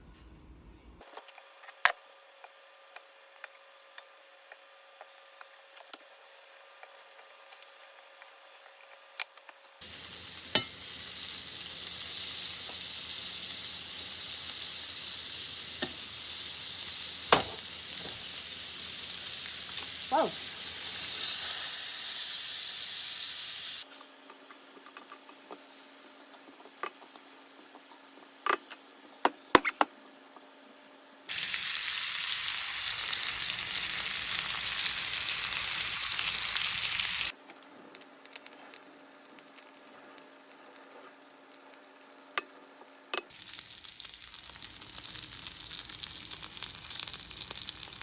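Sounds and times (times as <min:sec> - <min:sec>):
food sizzling in a frying pan: 0:05.6 - 0:48.0.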